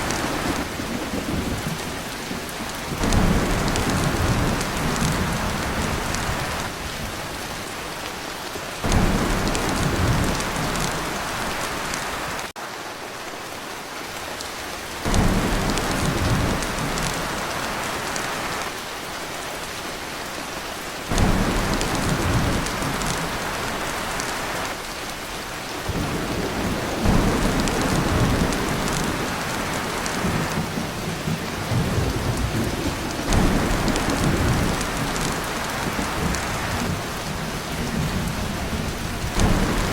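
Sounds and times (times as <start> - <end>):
thunder rumbling: 0.0 - 7.5, 8.8 - 12.5, 15.0 - 18.7, 21.1 - 24.7, 25.8 - 39.9
heavy rain on a tin roof: 0.0 - 39.9.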